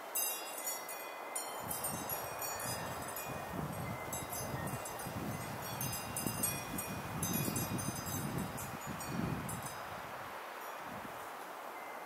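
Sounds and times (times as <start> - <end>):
high tinkling chimes: 0.0 - 11.0
wind gusts rumbling on microphone: 1.6 - 11.3
wind noise: 1.6 - 11.3.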